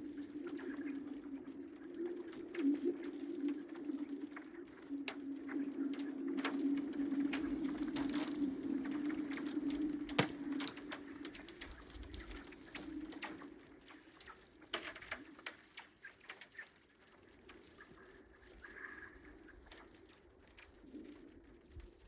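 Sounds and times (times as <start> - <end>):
lake ice crackling and clicking: 0.0 - 22.0.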